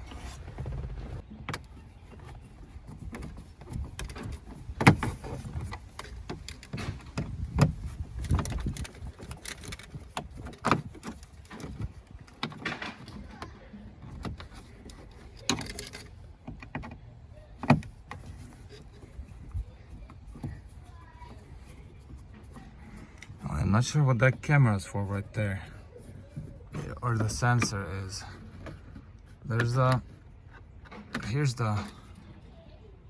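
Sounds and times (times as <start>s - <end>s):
plastic trim parts rattling: 0.0s - 32.3s.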